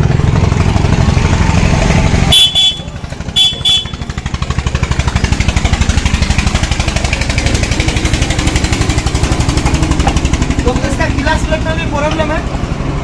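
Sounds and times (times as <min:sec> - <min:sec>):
light engine rattle: 0:00.0 - 0:13.0
motorcycle engine idling: 0:00.0 - 0:13.0.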